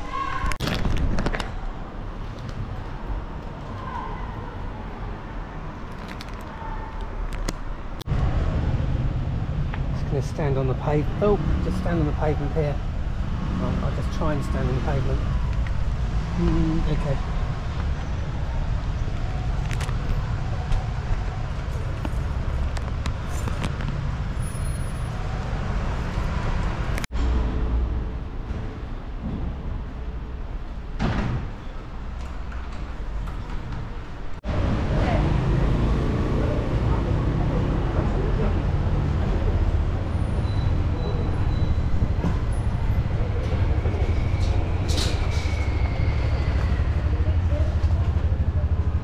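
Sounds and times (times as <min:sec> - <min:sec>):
motor vehicles rumbling: 0:00.0 - 0:49.0.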